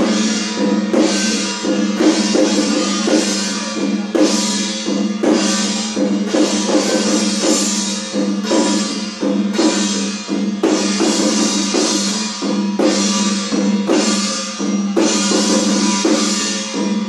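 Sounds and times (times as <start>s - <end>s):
drums beaten in steady rhythm: 0.0s - 17.0s
loud accented percussion stroke: 0.0s - 17.0s.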